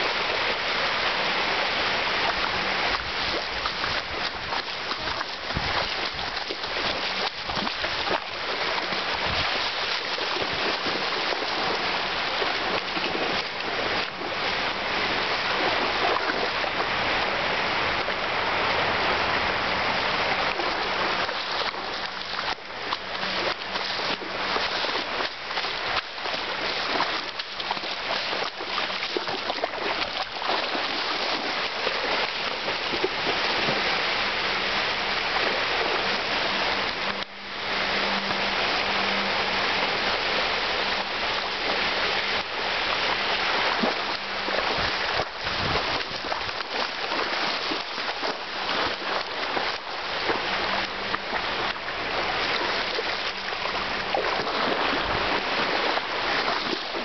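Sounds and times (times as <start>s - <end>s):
dog splashing in shallow water: 0.0s - 57.0s
small surf waves washing: 0.0s - 57.0s.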